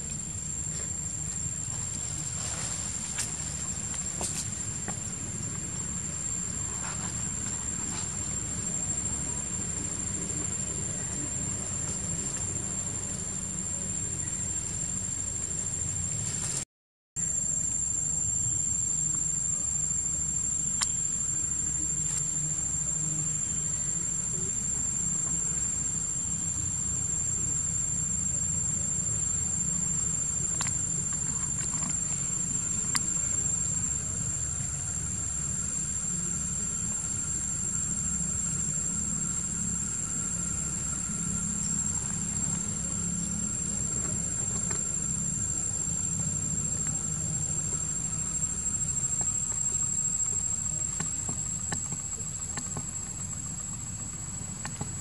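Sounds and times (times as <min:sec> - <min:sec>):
insects whining: 0:00.0 - 0:16.6, 0:17.2 - 0:55.0
low steady rumble: 0:00.0 - 0:16.6, 0:17.3 - 0:55.0.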